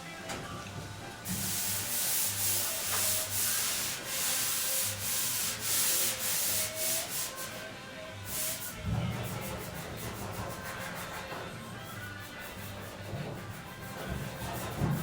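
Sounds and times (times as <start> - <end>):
rubbing strokes on steel panel: 1.2 - 15.0.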